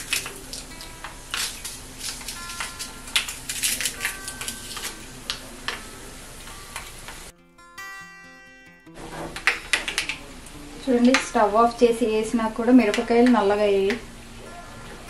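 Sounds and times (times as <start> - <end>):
spices crackling in hot oil: 0.0 - 7.3, 9.0 - 15.0
quiet background music: 0.0 - 15.0.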